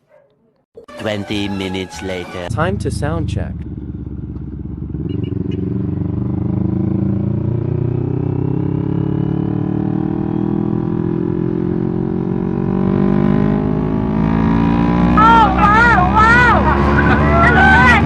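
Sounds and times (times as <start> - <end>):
motorcycle engine revving: 2.5 - 18.0.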